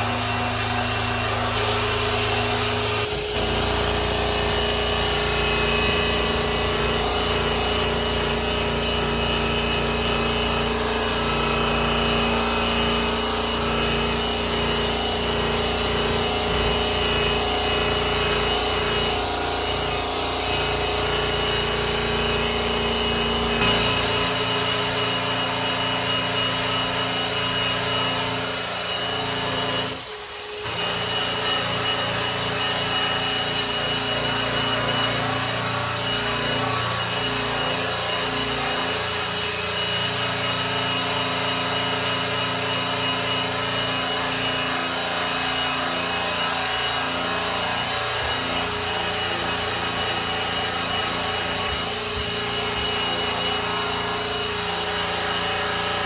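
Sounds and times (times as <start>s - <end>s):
polisher motor whine: 0.0s - 56.0s.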